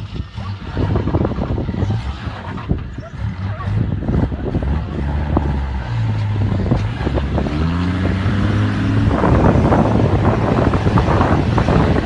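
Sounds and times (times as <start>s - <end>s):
engine revving: 0.0s - 12.0s
wind buffeting microphone: 0.0s - 12.0s.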